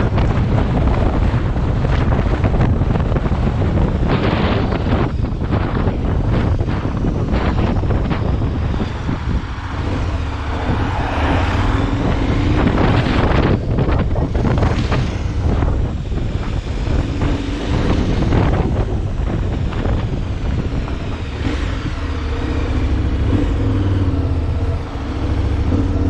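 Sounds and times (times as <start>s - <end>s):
moving vehicle running noise: 0.0s - 26.0s
wind buffeting microphone: 0.0s - 26.0s.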